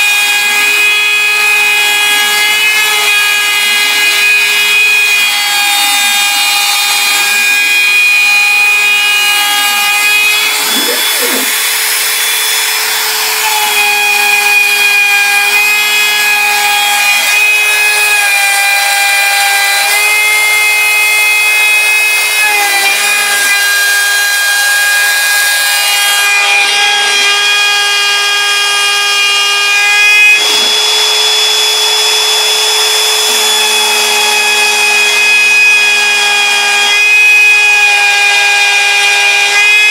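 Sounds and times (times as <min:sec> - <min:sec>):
router whining while cutting: 0:00.0 - 0:39.9.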